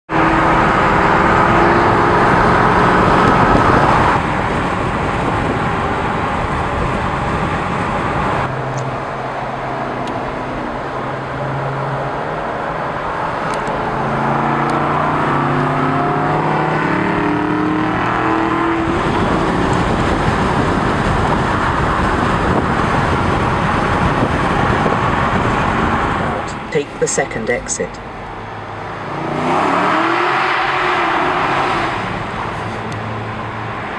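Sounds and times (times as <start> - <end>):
sports car engine and exhaust: 0.1 - 33.9.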